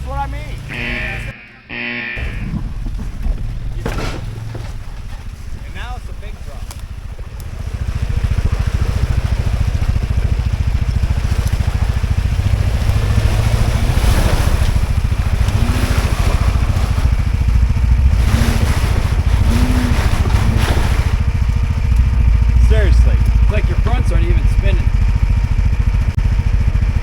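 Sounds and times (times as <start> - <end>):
wheels spinning in dirt: 0.0 - 1.3, 2.2 - 27.0
engine revving under load: 0.0 - 27.0.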